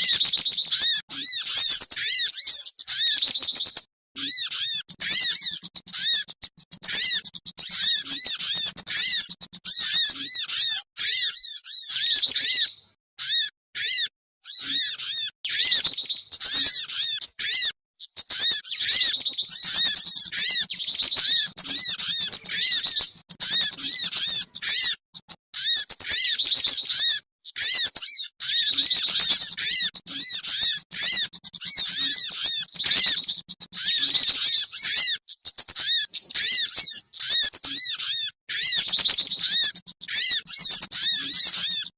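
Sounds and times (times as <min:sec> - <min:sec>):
songbirds twittering: 0:00.0 - 0:41.9.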